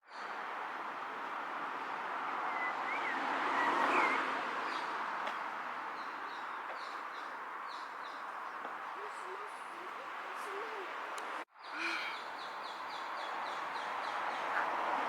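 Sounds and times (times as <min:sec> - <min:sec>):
distant traffic rush: 0:00.0 - 0:15.0
small birds chirping: 0:00.1 - 0:14.8.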